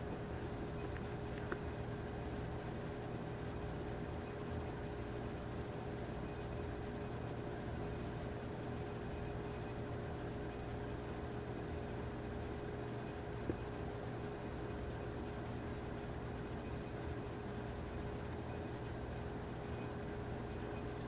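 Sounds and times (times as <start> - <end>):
faint steady tone: 0.0 - 21.0
low hum and hiss: 0.0 - 21.0.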